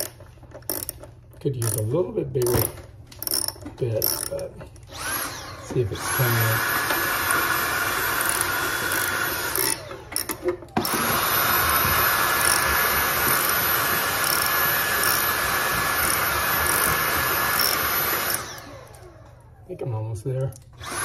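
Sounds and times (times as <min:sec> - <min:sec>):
stick vacuum whining: 0:00.0 - 0:19.6, 0:20.5 - 0:21.0.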